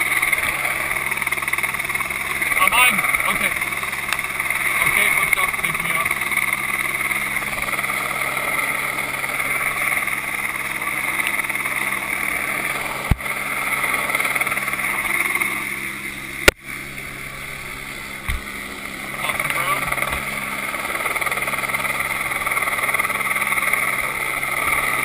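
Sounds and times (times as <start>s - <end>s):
helicopter rotor drone: 0.0s - 25.0s.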